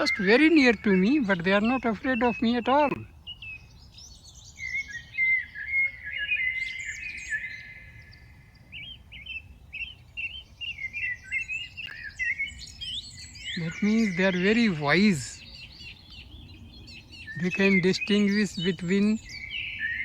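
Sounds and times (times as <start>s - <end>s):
songbirds chirping and singing: 0.0s - 20.0s.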